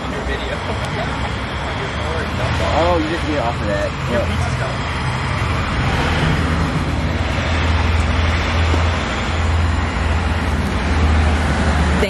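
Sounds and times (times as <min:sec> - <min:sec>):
street traffic rumble and hiss: 0:00.0 - 0:12.0.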